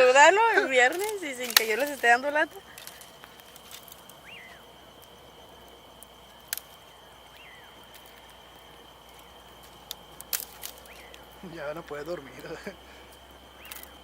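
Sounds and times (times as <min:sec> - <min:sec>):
campfire crackling: 0:00.0 - 0:14.0
night insects trilling: 0:00.0 - 0:14.0
night bird whistle: 0:01.2 - 0:14.0.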